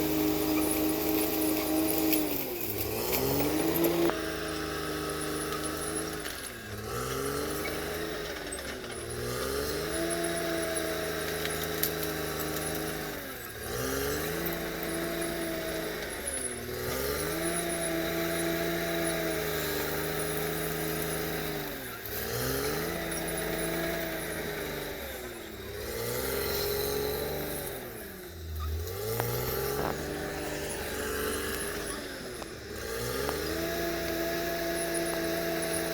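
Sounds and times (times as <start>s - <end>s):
bulldozer diesel engine lugging: 0.0s - 35.9s.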